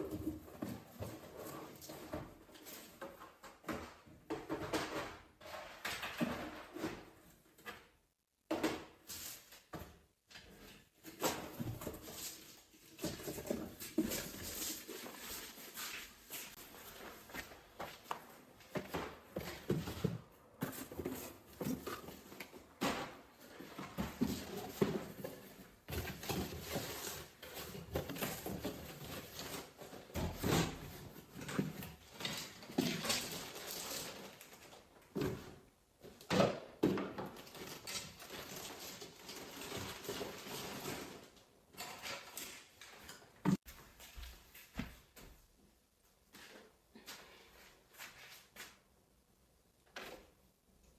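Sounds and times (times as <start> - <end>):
household items knocking and clattering: 0.0 - 45.4.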